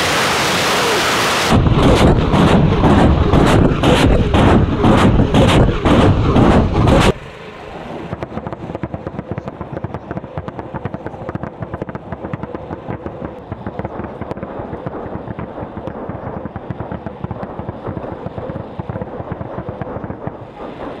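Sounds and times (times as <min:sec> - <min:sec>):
rocket launcher firing blasts: 0:00.0 - 0:21.0
distant rocket explosions crackling: 0:00.2 - 0:21.0.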